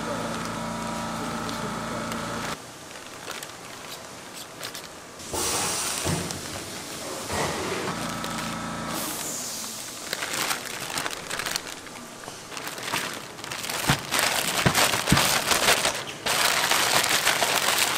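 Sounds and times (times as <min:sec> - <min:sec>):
steady mechanical hum: 0:00.0 - 0:17.9
plastic bag rustling and crinkling: 0:02.4 - 0:05.2, 0:06.0 - 0:17.9.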